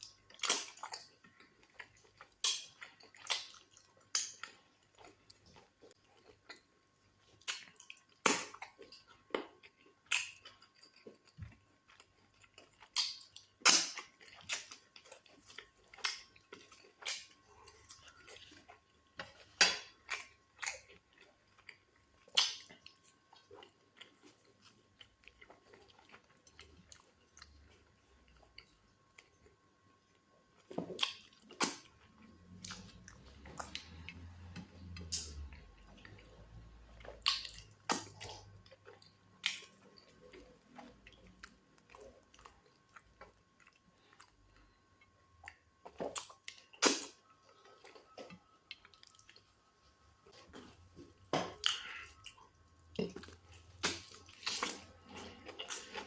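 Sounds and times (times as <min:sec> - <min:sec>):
wet chewing and lip smacks: 0:00.0 - 0:56.0.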